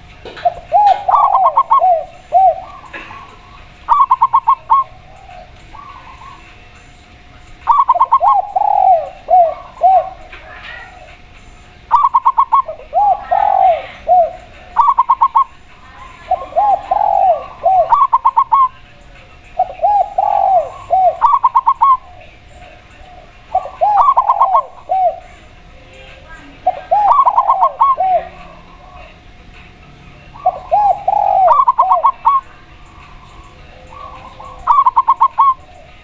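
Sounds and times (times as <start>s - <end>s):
doves cooing: 0.0s - 36.0s.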